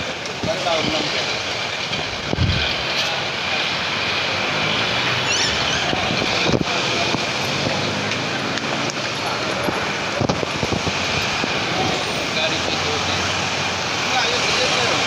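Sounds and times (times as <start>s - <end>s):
car engines humming: 0.0s - 15.0s
motorcycles running: 0.0s - 15.0s.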